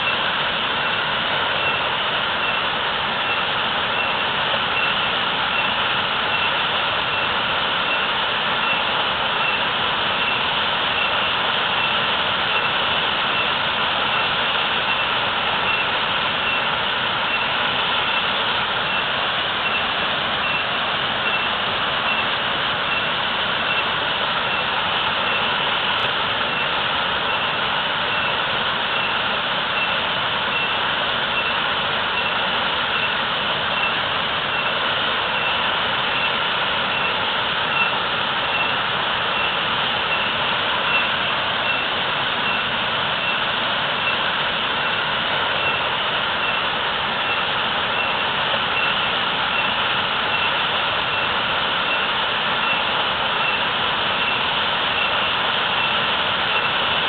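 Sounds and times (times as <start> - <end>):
waterfall pouring: 0.0 - 57.0.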